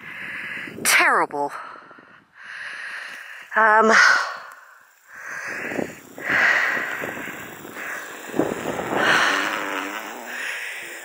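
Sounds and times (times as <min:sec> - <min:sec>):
heavy breathing: 0:00.0 - 0:00.8, 0:01.5 - 0:11.0.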